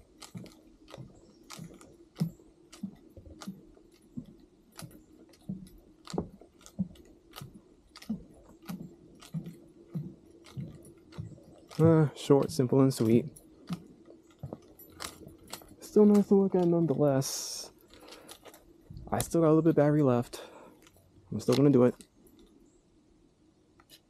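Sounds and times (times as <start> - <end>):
footsteps on wooden boardwalk: 0.0 - 22.2.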